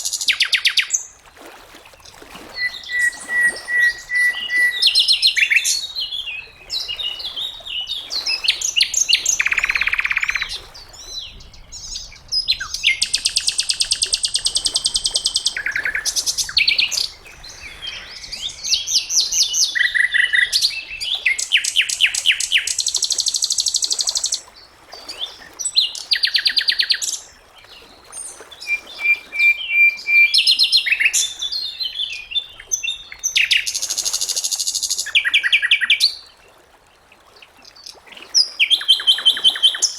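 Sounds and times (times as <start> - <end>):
songbird whistles and trills: 2.4 - 24.5, 28.2 - 36.1, 37.6 - 39.9.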